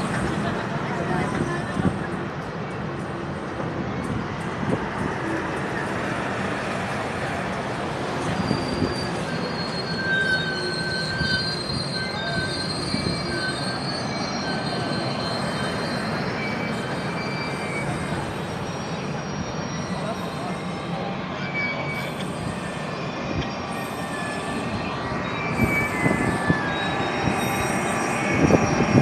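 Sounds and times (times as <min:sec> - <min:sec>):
train wheels rumbling on rails: 0:00.0 - 0:29.0
high-pitched wheel squeals: 0:03.9 - 0:29.0.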